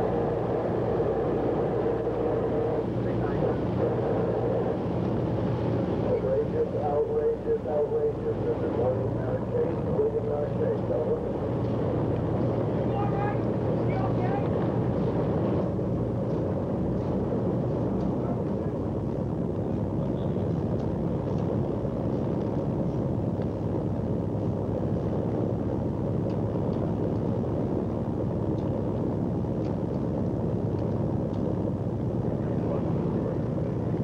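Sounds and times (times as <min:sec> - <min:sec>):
boat engine rumbling: 0:00.0 - 0:34.0
wind: 0:00.0 - 0:34.0.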